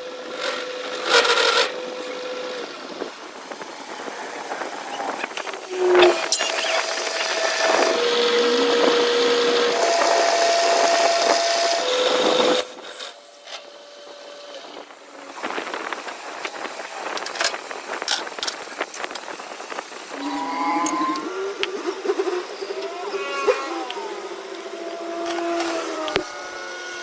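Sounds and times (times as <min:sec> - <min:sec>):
metalworking machine whine: 0:00.0 - 0:27.0.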